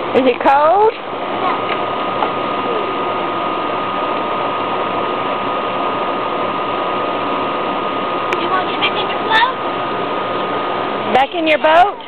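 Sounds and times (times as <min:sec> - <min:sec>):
machine whirring with thin whine: 0:00.0 - 0:12.0.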